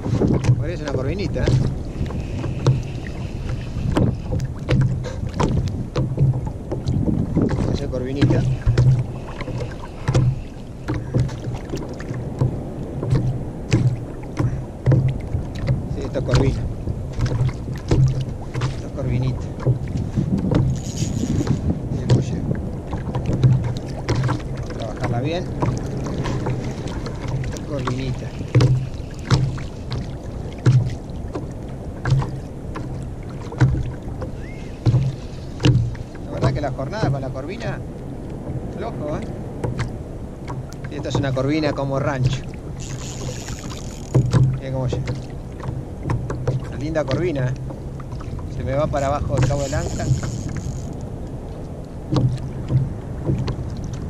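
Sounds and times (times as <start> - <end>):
waves slapping kayak hull: 0.0 - 54.0
wind rumble: 0.0 - 54.0.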